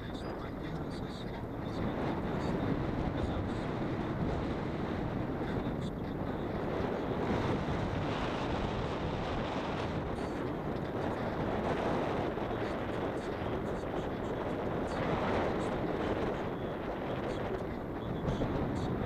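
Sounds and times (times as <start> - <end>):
car tyre and engine noise: 0.0 - 19.0.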